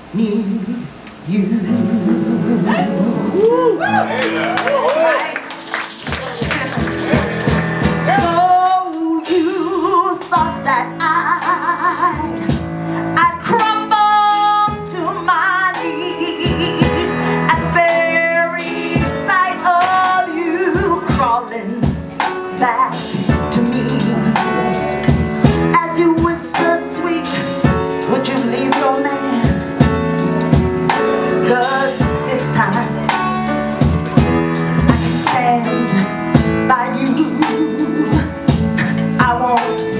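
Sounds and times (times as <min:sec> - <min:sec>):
live band playing: 0:01.6 - 0:39.9.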